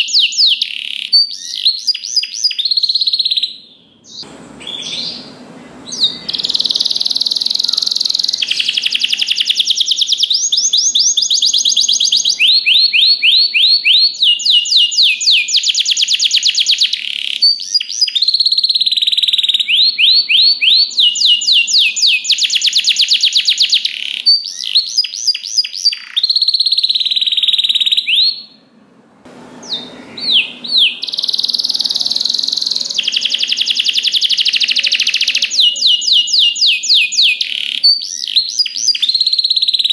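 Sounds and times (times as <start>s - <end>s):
canary singing trills: 0.0s - 28.6s, 29.5s - 39.9s.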